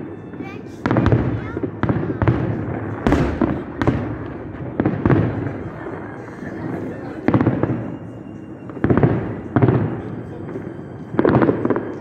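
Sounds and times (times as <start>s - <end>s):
fireworks bangs with rumble: 0.2s - 8.0s, 8.6s - 12.0s.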